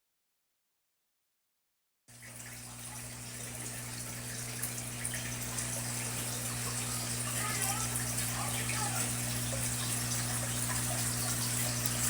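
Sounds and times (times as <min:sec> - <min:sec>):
running water rushing: 0:02.1 - 0:12.0.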